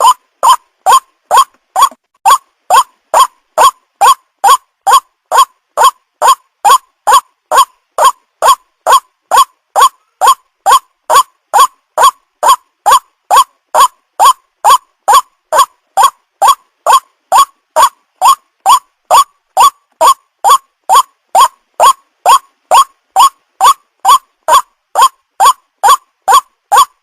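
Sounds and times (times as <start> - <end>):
waterhen calling: 0.0 - 27.0.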